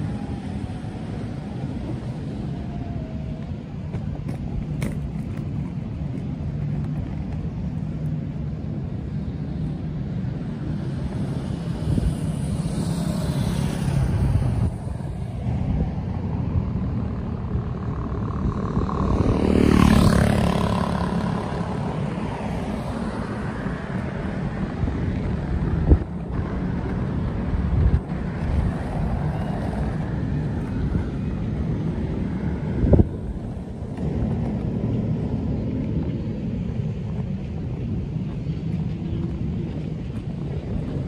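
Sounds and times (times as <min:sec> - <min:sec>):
jet airliner rumble: 0:00.0 - 0:41.0.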